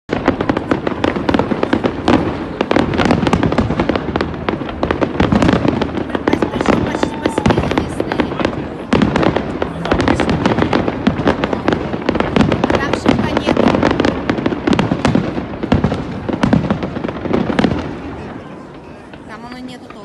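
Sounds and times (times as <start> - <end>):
fireworks bangs and crackling: 0.1 - 20.0.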